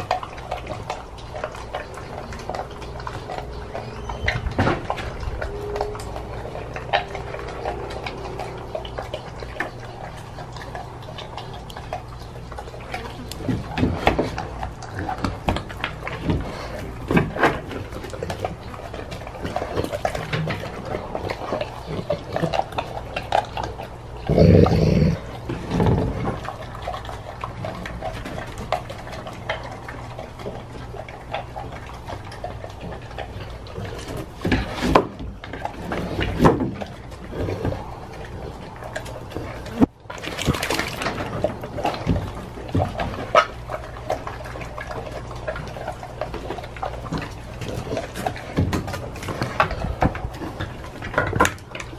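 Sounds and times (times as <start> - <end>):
dog chewing and licking: 0.0 - 51.9.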